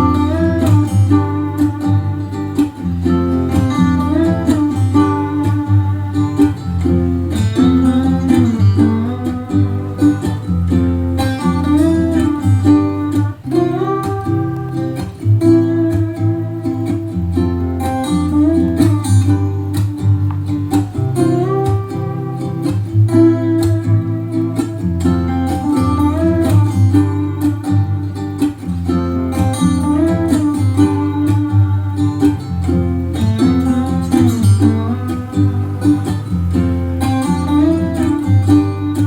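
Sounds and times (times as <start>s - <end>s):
plucked guitar music: 0.0s - 39.0s.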